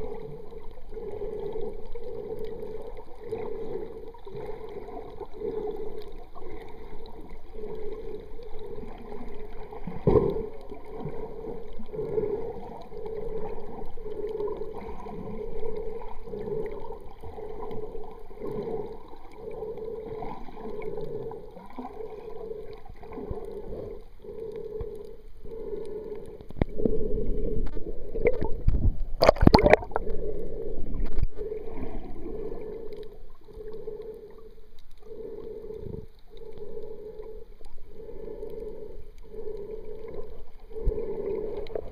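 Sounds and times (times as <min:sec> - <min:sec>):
underwater water gurgling: 0:00.0 - 0:41.9.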